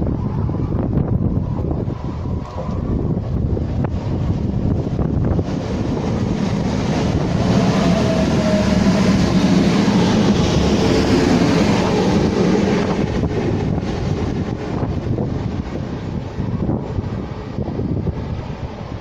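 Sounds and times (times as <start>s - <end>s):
train passing: 0.0s - 19.0s.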